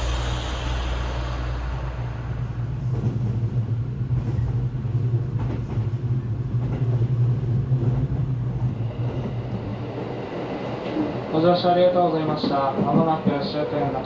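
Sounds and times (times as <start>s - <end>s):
train wheels humming and rumbling: 0.0s - 14.0s.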